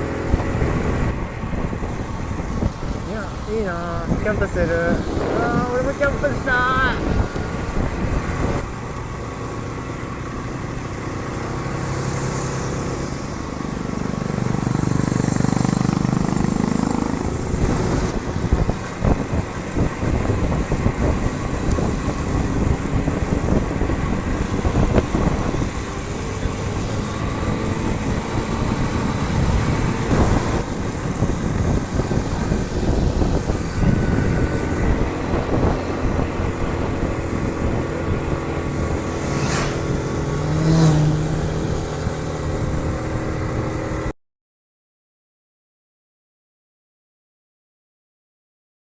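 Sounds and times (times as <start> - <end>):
motorcycle engine running: 0.0 - 44.1.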